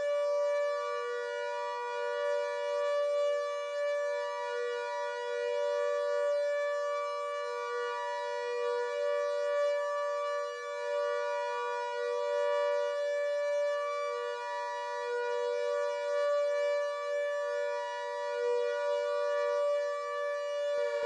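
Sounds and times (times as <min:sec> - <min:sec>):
synthesized siren steady chord: 0:00.0 - 0:21.0.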